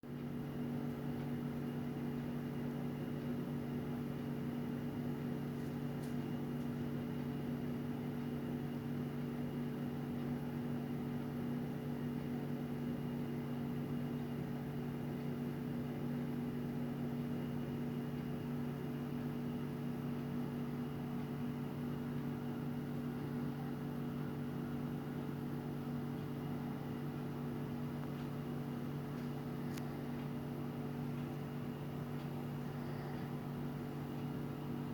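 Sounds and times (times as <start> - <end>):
low hum of fixed tones: 0.1 - 34.9.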